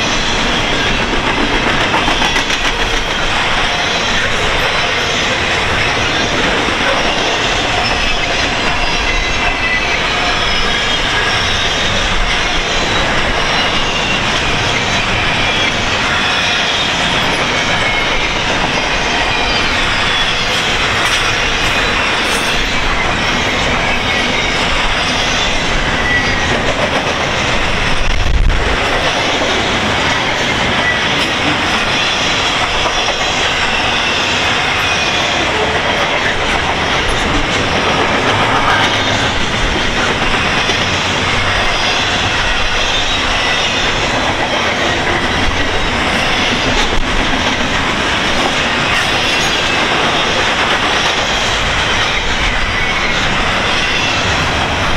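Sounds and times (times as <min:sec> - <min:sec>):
freight train wheels rumbling: 0:00.0 - 0:54.9
high wheel squeal: 0:00.0 - 0:54.9.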